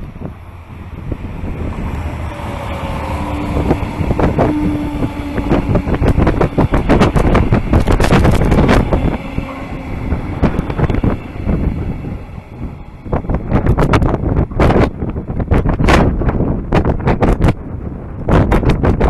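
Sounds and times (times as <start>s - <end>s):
train passing: 0.0s - 18.4s
wind on microphone: 0.0s - 19.0s.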